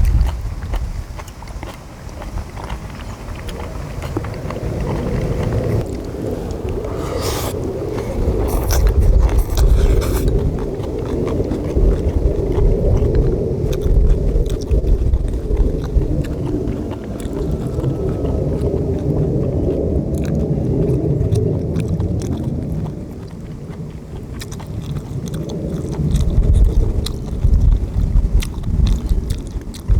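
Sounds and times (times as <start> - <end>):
chewing and biting: 0.0 - 29.9
wind rumble on microphone: 0.0 - 29.9.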